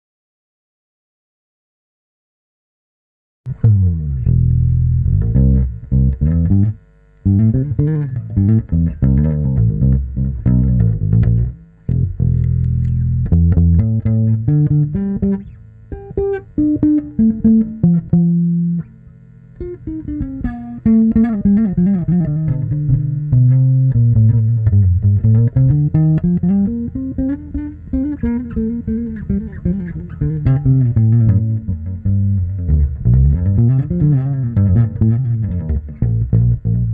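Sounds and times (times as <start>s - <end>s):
bass guitar playing: 3.5s - 36.9s.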